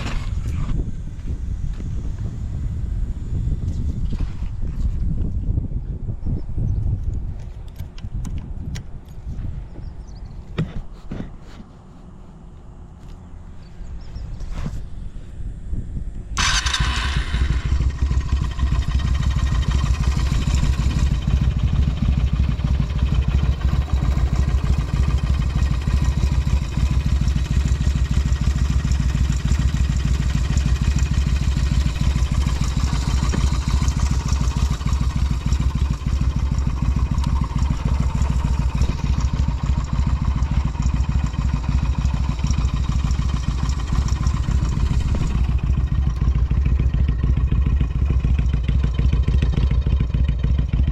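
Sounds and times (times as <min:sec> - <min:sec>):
motorcycle engine idling: 0:00.0 - 0:05.2, 0:11.6 - 0:50.9.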